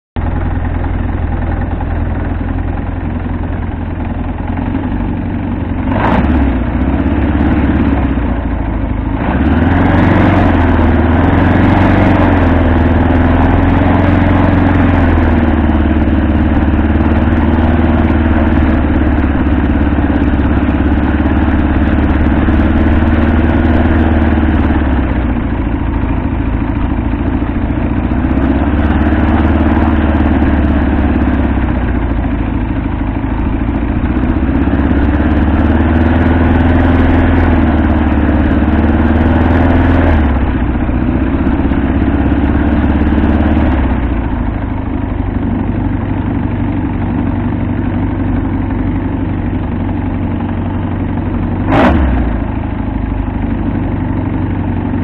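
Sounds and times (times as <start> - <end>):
microlight engine and propeller hum: 0.2 - 55.0.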